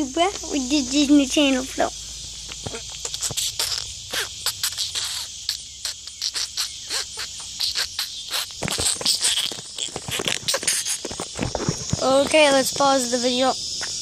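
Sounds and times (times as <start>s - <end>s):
insect chorus chirring: 0.0s - 14.0s.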